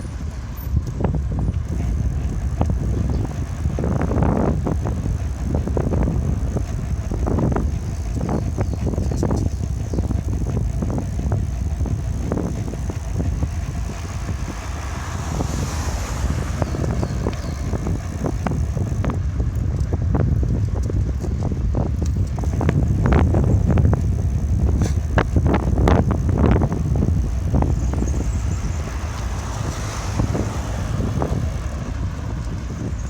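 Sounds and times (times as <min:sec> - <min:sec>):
bicycle rattles and knocks: 0:00.0 - 0:33.0
road noise: 0:00.0 - 0:33.0
wind rumbling on microphone: 0:00.0 - 0:33.0.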